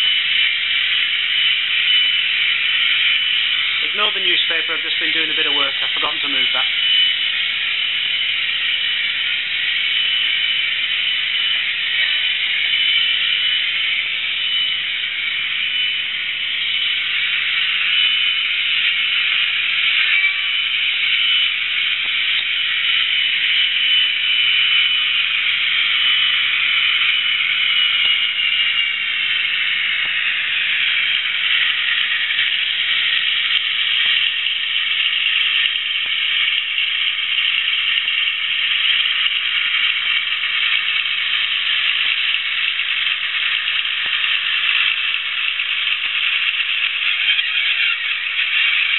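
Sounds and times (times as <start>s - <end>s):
model train engine sound from speaker: 0.0s - 48.9s.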